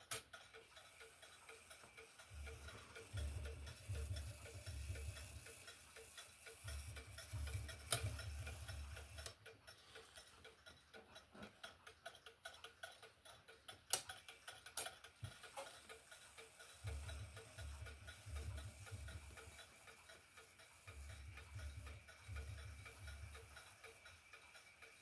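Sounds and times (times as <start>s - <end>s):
clock clicks: 0.0s - 25.0s
wall clock ticking: 0.0s - 25.0s.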